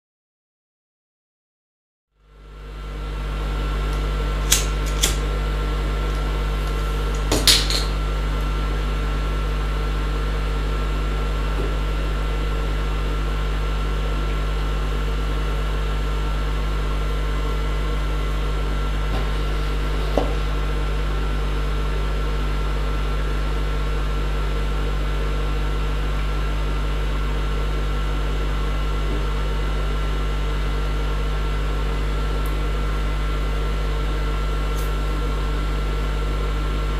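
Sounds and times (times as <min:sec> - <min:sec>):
low machine hum: 0:02.2 - 0:36.9.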